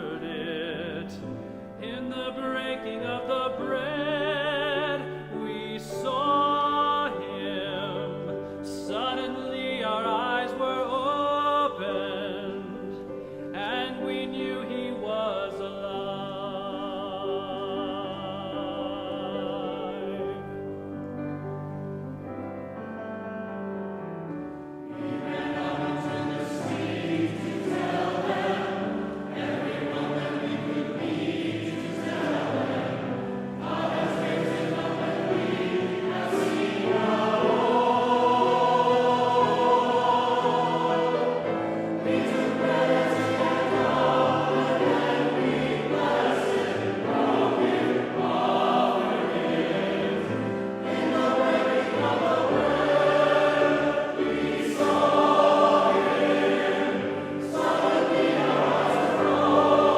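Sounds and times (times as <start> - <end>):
choir singing a hymn: 0.0 - 23.0, 24.2 - 59.9.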